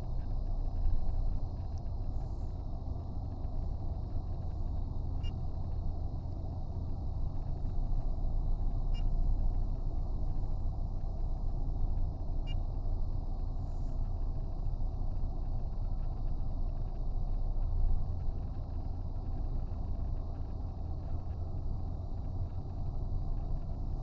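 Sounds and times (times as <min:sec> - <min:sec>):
engine and road noise in car: 0:00.0 - 0:24.0
faint ticks: 0:00.0 - 0:24.0.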